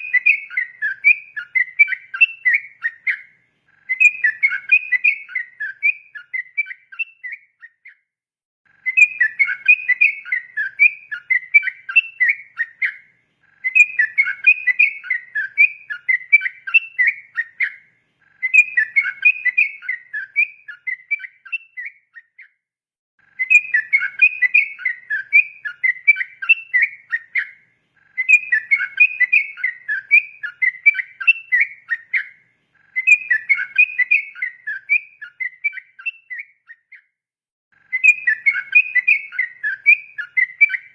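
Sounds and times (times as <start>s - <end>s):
bulbul singing whistled song: 0.0s - 8.1s, 8.7s - 22.6s, 23.2s - 37.2s, 37.8s - 40.9s.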